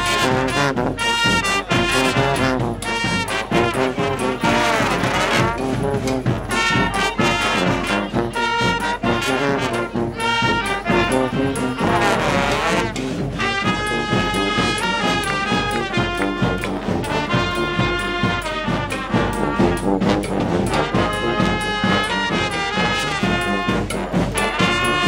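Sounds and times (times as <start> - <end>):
brass marching band playing: 0.0 - 25.0.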